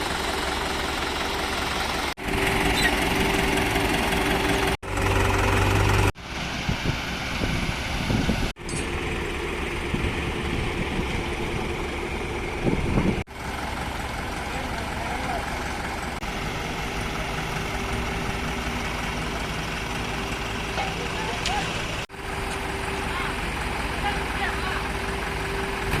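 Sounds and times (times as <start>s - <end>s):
heavy diesel engines running: 0.0s - 26.0s.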